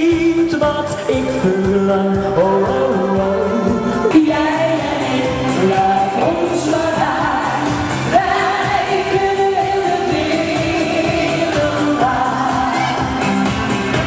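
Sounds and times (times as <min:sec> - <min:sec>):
instrumental backing: 0:00.0 - 0:14.0.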